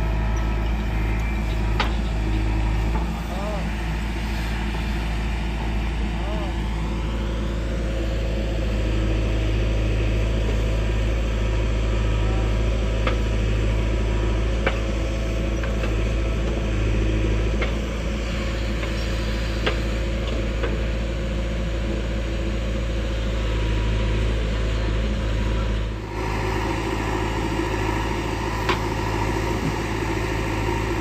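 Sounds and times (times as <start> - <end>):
diesel engine drone: 0.0 - 31.0.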